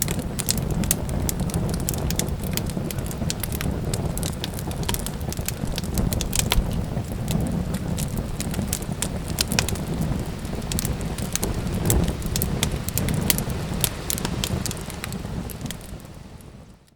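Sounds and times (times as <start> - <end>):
low rumble of flames: 0.0 - 16.9
wood fire crackling and popping: 0.0 - 16.9.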